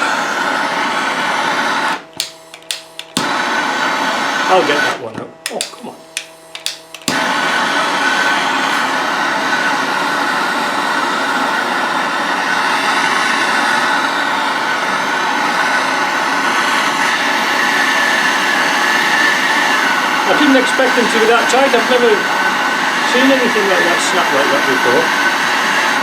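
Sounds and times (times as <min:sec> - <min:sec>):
power tool whirring: 0:00.0 - 0:26.0.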